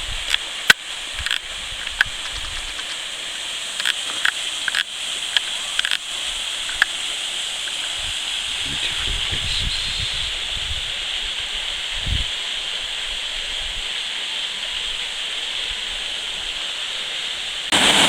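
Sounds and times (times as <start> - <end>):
waterfall splashing: 0.0 - 18.0.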